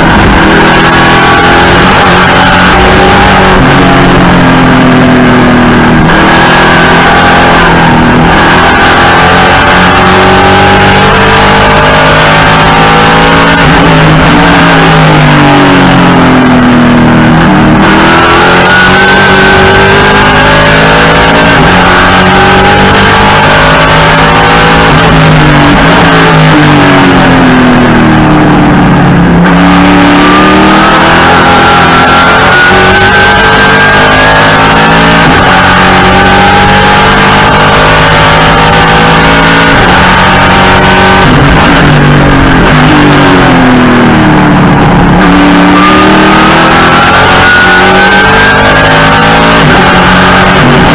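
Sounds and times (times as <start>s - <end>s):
race car engine revving: 0.0s - 50.9s
wind and road noise: 0.0s - 50.9s.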